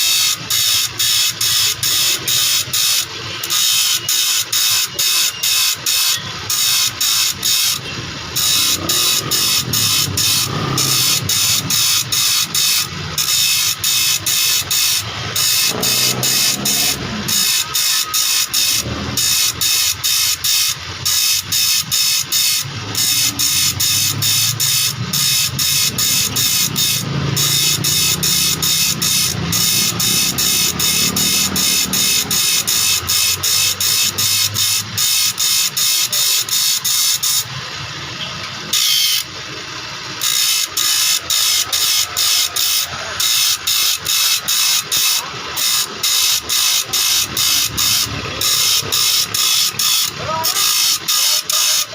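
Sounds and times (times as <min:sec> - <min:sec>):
file rasping on saw blade: 0:00.0 - 0:37.5, 0:38.7 - 0:39.3, 0:40.2 - 0:51.9.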